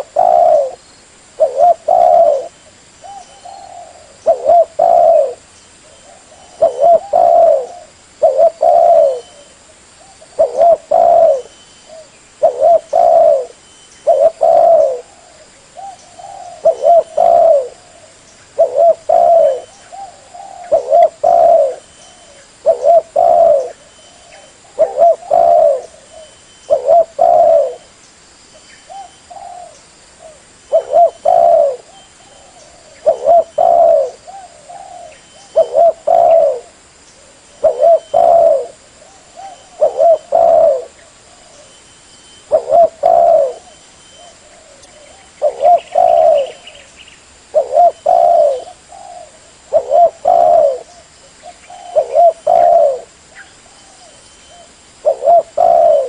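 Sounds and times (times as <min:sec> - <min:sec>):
dove cooing: 0:00.0 - 0:00.8, 0:01.4 - 0:27.9, 0:28.9 - 0:41.8, 0:42.4 - 0:46.9, 0:47.5 - 0:56.0.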